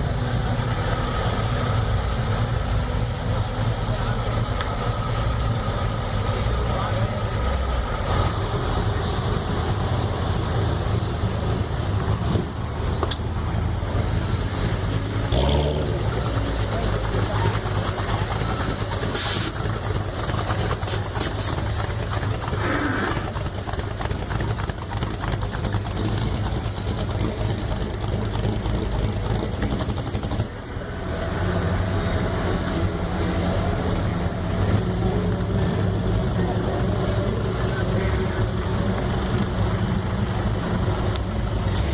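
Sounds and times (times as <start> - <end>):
car engines low rumble: 0.0 - 41.9.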